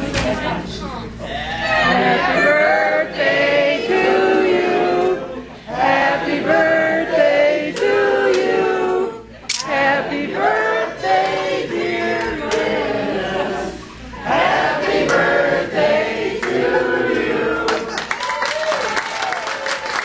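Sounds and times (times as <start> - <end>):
group of people singing: 1.6 - 18.0.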